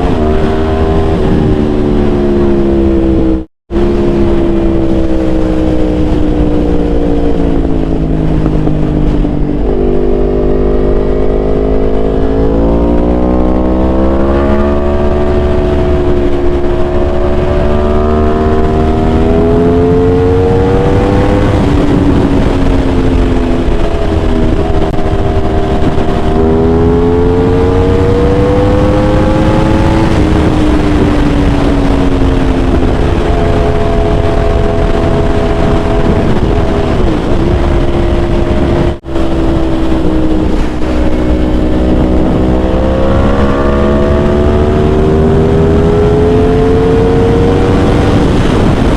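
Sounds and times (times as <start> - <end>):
motorcycle engine revving: 0.0 - 48.9
wind rumble on microphone: 0.0 - 48.9.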